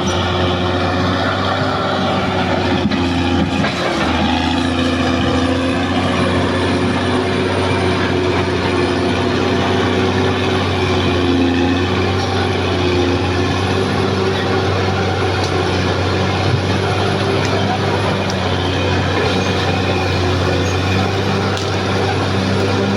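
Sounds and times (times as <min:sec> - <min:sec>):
bulldozer diesel engine running: 0:00.0 - 0:22.9.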